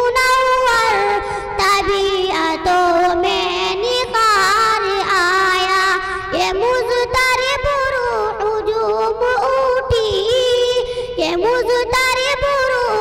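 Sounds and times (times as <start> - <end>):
girl singing into microphone: 0.0 - 13.0.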